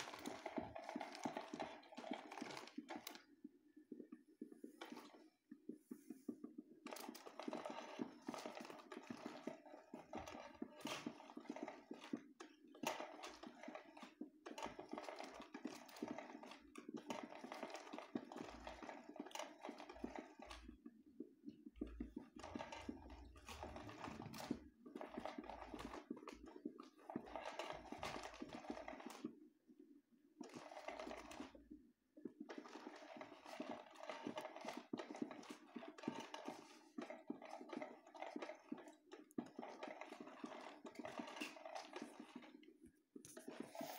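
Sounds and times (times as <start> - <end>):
toy motor whirring and clicking: 0.0 - 3.3, 6.8 - 20.8, 22.1 - 29.3, 30.4 - 31.6, 32.5 - 43.9.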